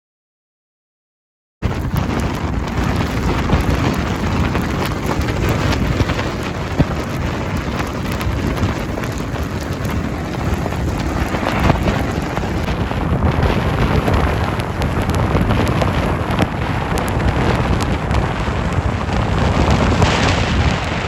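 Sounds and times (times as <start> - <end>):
blizzard wind buffeting microphone: 1.6 - 21.0
blowing snow ticking: 1.6 - 21.0.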